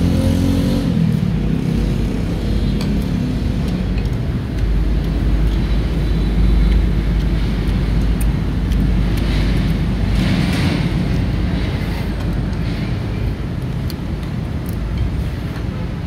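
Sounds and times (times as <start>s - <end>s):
steady low rumble: 0.9s - 16.0s.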